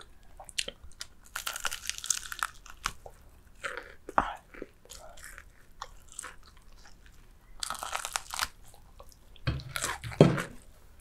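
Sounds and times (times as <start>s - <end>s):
crunching and chewing: 0.0s - 10.8s.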